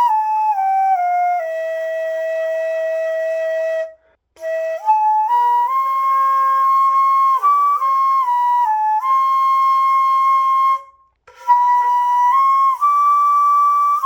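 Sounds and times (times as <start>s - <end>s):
bamboo flute slow melody: 0.0s - 14.0s.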